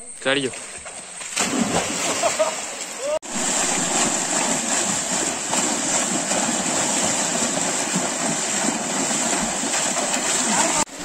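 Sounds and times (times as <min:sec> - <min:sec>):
swimmers splashing in water: 0:01.3 - 0:11.0.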